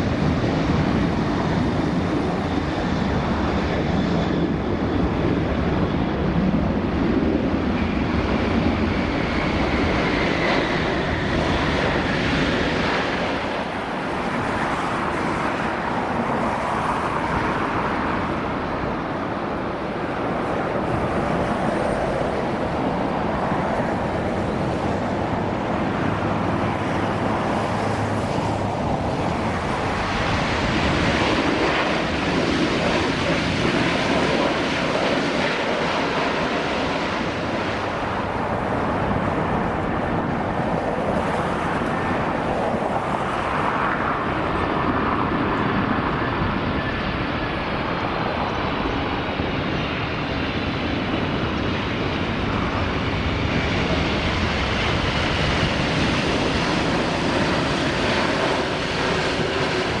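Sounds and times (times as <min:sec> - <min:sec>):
jet engines roaring at takeoff: 0:00.0 - 1:00.0.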